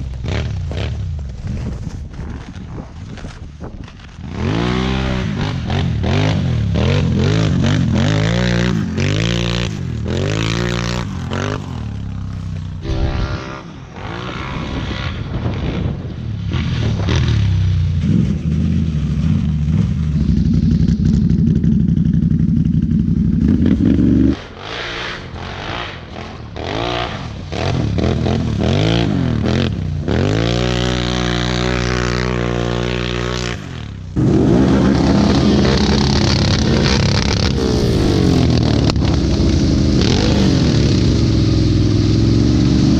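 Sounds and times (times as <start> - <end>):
atv engines revving: 4.3 - 42.9.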